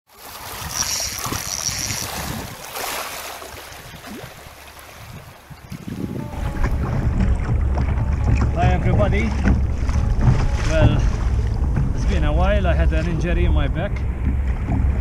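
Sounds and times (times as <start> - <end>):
sea water splashing and lapping: 0.1 - 15.0
wind: 0.1 - 15.0
wind rumble on microphone: 0.4 - 2.7, 3.5 - 15.0.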